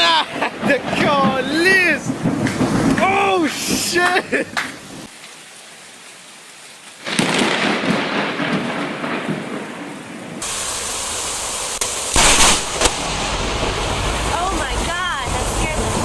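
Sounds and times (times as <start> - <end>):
rain falling: 0.0 - 16.0
thunder crack: 0.3 - 4.6, 7.0 - 16.0.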